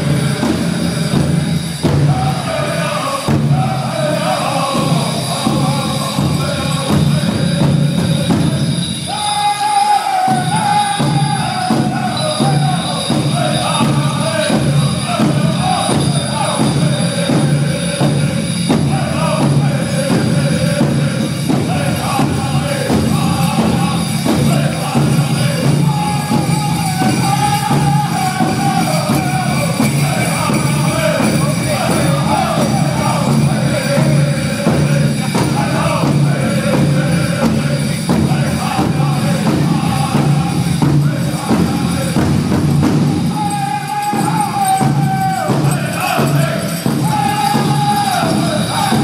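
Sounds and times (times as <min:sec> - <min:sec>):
group singing in unison: 0:00.0 - 0:49.0
steady drumbeat: 0:00.0 - 0:49.0.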